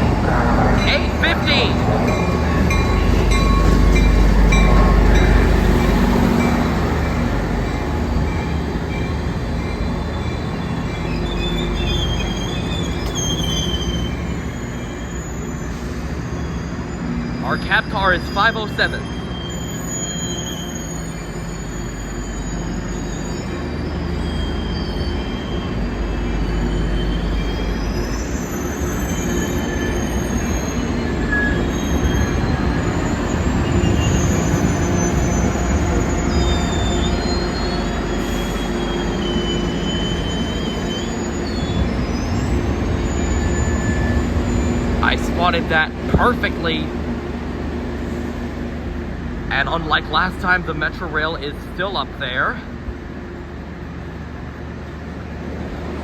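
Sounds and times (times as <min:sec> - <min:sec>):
train rumble: 0:00.0 - 0:19.7, 0:20.4 - 0:56.0
train wheels squealing: 0:00.8 - 0:46.8.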